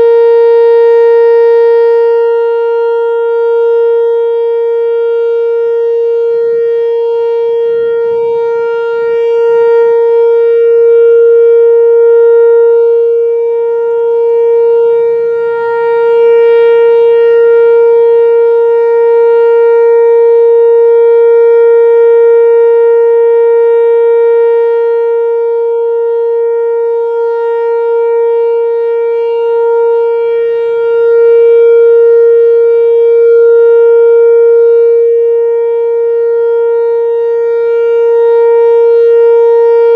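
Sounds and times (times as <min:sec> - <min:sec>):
loud steady siren tone: 0:00.0 - 0:39.9.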